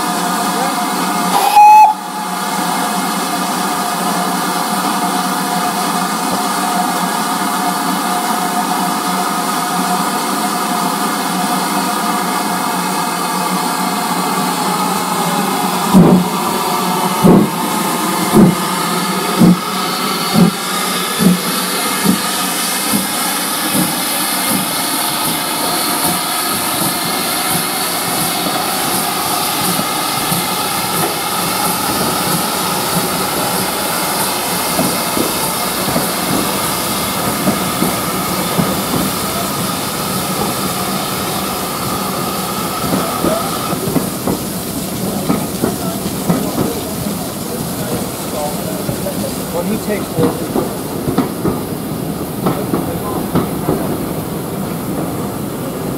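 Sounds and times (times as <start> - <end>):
steam locomotive exhaust chuffs: 0.0 - 55.9
steam locomotive hissing: 0.0 - 55.9.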